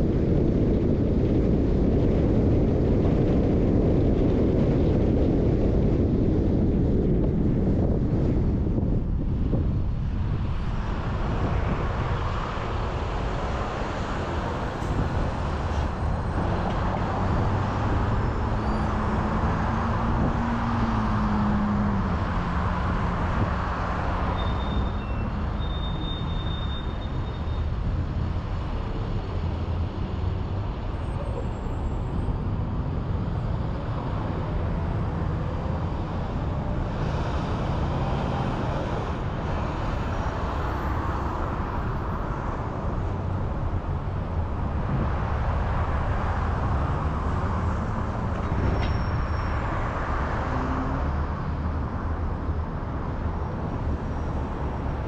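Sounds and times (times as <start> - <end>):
car road noise: 0.0 - 55.0.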